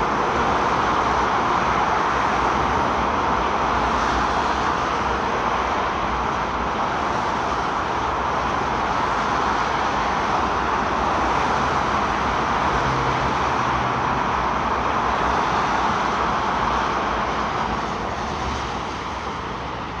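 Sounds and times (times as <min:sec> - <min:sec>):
motorway traffic: 0:00.0 - 0:20.0.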